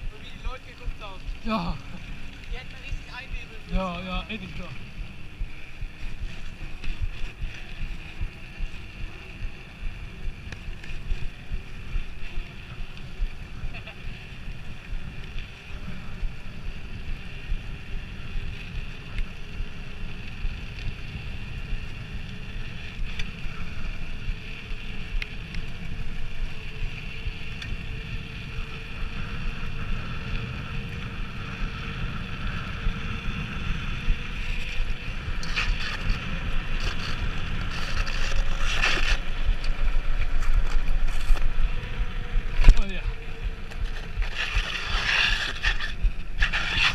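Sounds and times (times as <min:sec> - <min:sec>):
low rumble of bike tyres: 0:00.0 - 0:46.9
wind rushing over microphone: 0:00.0 - 0:46.9.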